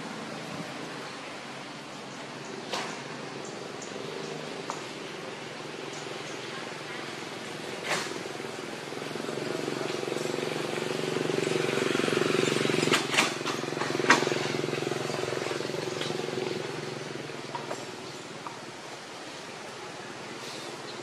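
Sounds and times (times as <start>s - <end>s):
vehicle engine running: 4.1s - 21.0s.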